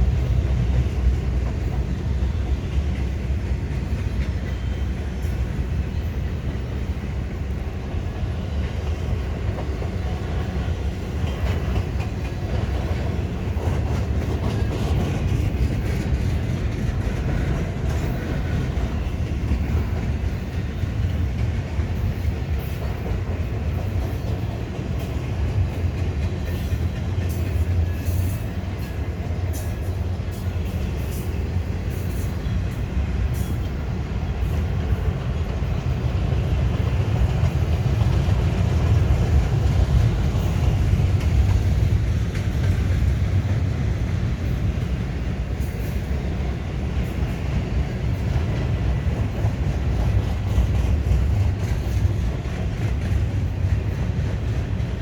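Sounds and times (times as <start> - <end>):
rail joint clicks: 0.0 - 55.0
steel train wheels rumbling on rails: 0.0 - 55.0.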